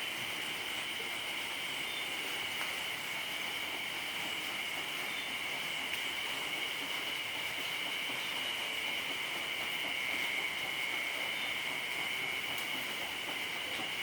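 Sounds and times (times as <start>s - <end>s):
light hiss: 0.0s - 14.0s
insect chorus drone: 0.3s - 14.0s.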